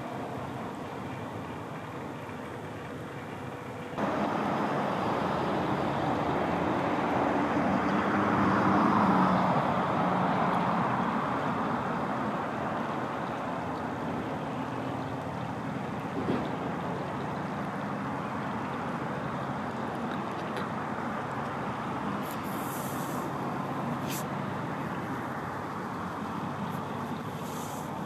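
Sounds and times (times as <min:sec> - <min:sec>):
background noise: 0:00.0 - 0:28.0.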